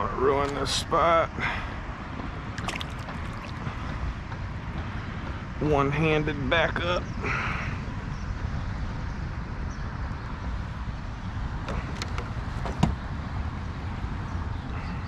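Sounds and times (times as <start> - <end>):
wind rumbling on microphone: 2.1 - 15.0.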